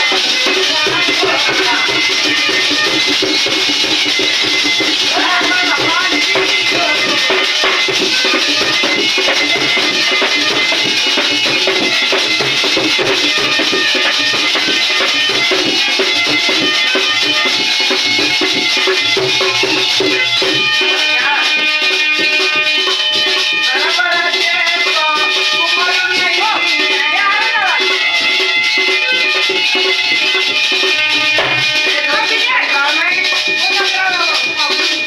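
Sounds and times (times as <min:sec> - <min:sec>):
hand drum rhythm: 0:00.0 - 0:35.0
held melodic tones: 0:00.0 - 0:35.0
shaken jingling percussion: 0:00.0 - 0:35.0.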